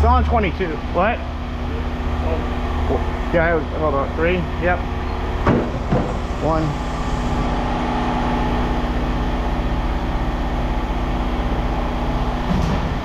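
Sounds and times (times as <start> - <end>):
machine engine rumbling: 0.0 - 13.0.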